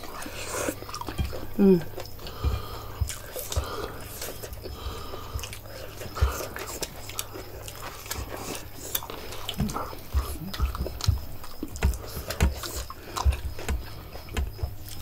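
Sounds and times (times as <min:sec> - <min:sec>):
chewing: 0:00.0 - 0:15.0
hands picking food from plates: 0:00.0 - 0:15.0.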